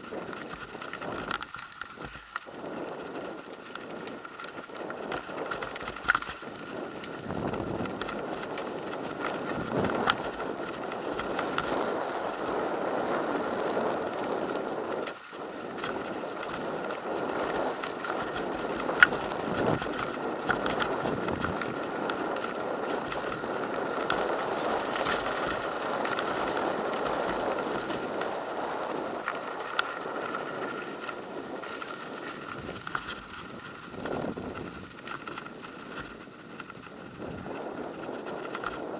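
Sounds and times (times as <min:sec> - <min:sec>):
bike rattling over bumps: 0:00.0 - 0:38.9
tyres on gravel: 0:00.0 - 0:38.9
wind on microphone: 0:00.0 - 0:38.9.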